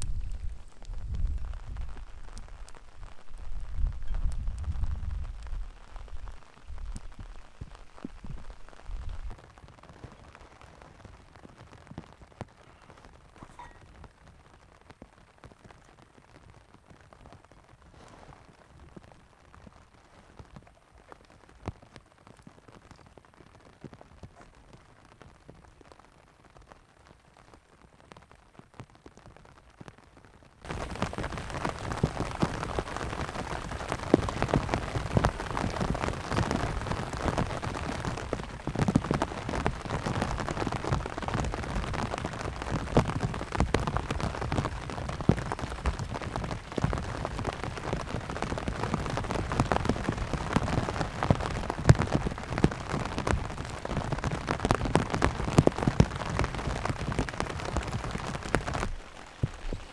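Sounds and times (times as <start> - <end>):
heavy rain on tent: 0.0 - 59.9.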